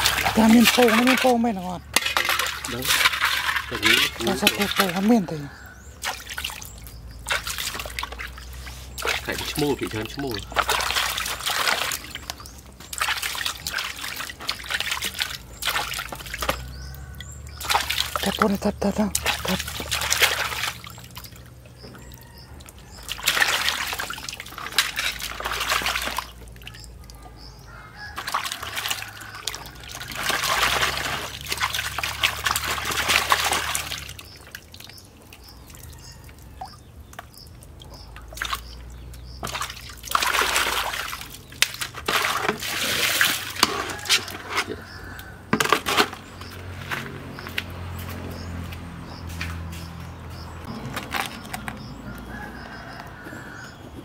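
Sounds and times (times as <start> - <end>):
water sloshing in plastic basin: 0.0 - 53.8.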